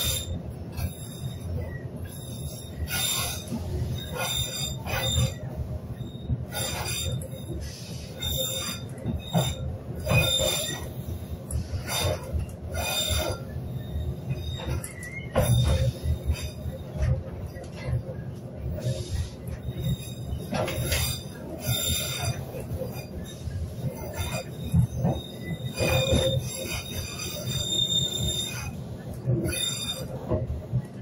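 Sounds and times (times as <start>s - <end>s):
wheels screeching against rails: 0.0s - 30.8s
train wheels rumbling on track: 0.0s - 31.0s.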